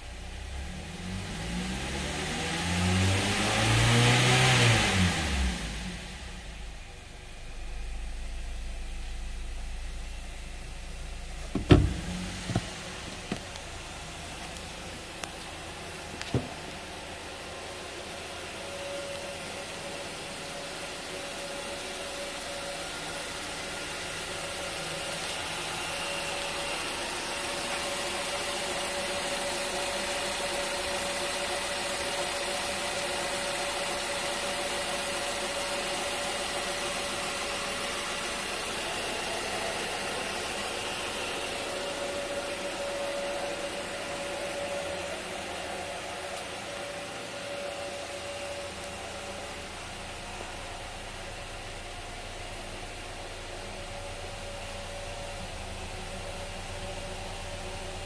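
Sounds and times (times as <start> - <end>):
car engine idling: 0.0 - 3.5, 4.7 - 58.0.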